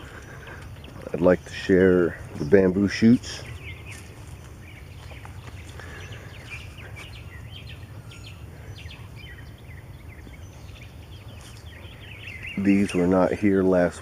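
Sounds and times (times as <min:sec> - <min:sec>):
low background rumble: 0:00.0 - 0:12.6
birds chirping: 0:00.0 - 0:14.0.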